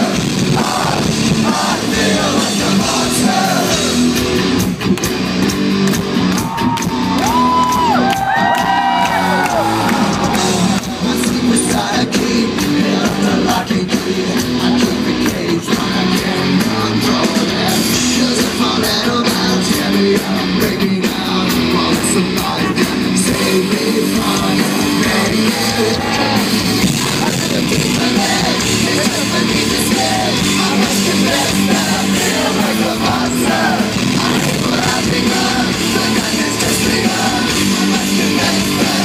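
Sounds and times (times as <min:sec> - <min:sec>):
rock band playing live: 0:00.0 - 0:39.0.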